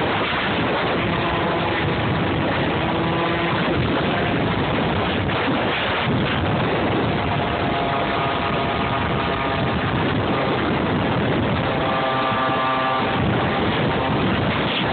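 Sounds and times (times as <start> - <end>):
two-stroke scooter engine: 0.0 - 14.9
wind on microphone: 0.0 - 14.9.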